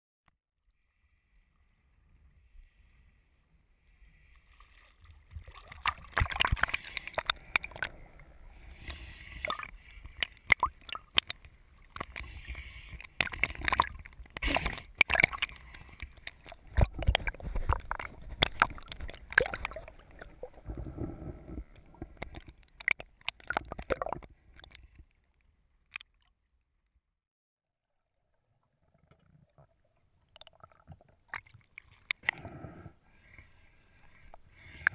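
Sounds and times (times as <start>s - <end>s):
water sloshing and gurgling: 1.9s - 26.4s, 28.3s - 34.9s.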